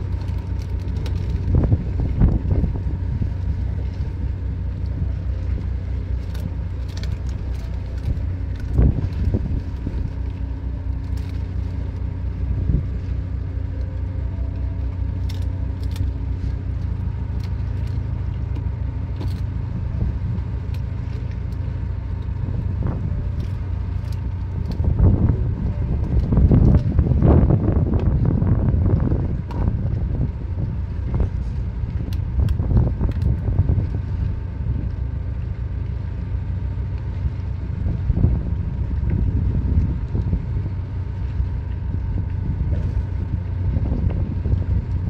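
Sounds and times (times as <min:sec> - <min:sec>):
faint whine: 0:00.0 - 0:45.0
ship engine idling drone: 0:00.0 - 0:45.0.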